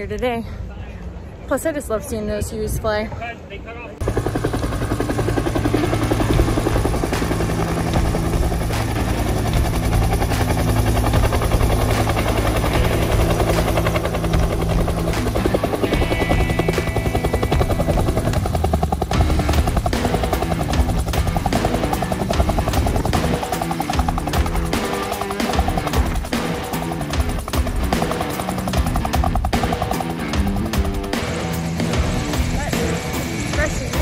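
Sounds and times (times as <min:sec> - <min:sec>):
helicopter rotor beating: 0:04.0 - 0:34.0.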